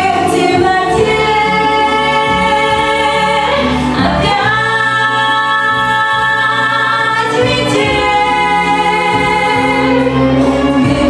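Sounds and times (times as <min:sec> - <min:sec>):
backing track: 0:00.0 - 0:11.0.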